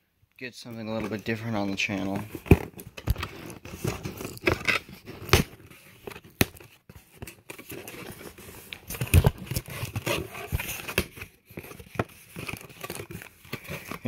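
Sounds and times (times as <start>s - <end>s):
cardboard box rustling and knocking: 2.0s - 14.0s.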